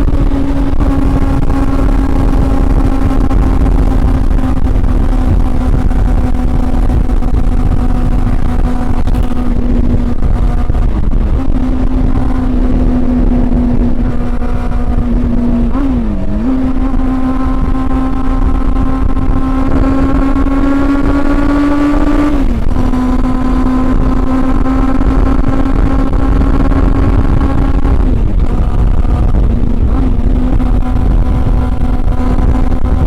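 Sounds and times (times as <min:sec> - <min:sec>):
motorcycle engine at high revs: 0:00.0 - 0:33.0.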